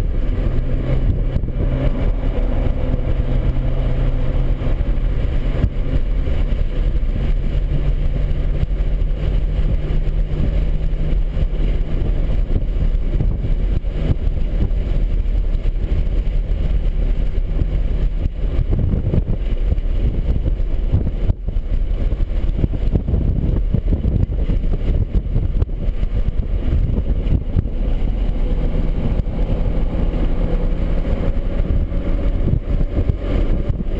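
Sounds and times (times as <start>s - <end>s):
car engine droning: 0.0s - 33.9s
road and wind rumble: 0.0s - 33.9s.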